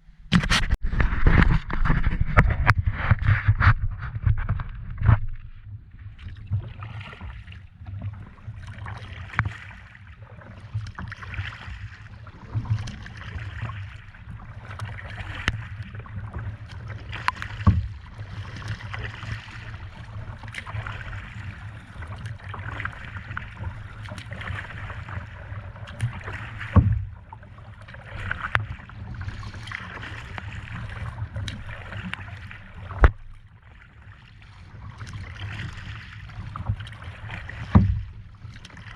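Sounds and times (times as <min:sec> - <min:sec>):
paddle splashing through water: 0:00.3 - 0:38.9.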